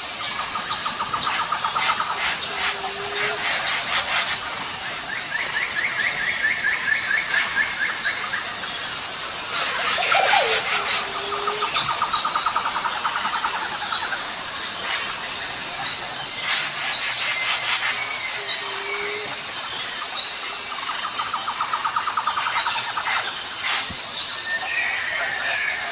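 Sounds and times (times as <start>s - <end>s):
high-pitched insect drone: 0.0s - 25.9s
rapid pulsed insect trills: 0.0s - 25.9s.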